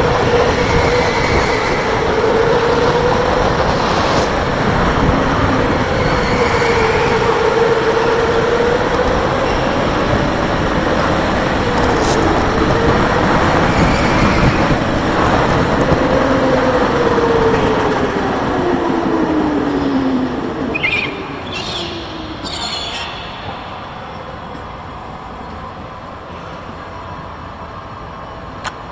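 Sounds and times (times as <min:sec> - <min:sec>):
rumble of tyres and chassis: 0:00.0 - 0:25.6.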